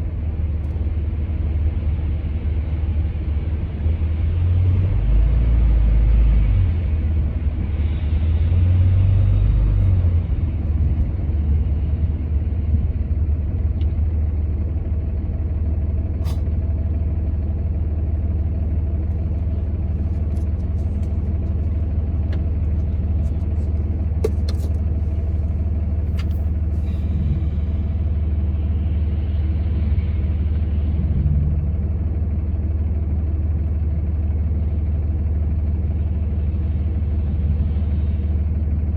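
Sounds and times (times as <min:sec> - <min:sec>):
road noise: 0:00.0 - 0:33.0
vehicle engine drone: 0:00.0 - 0:38.9.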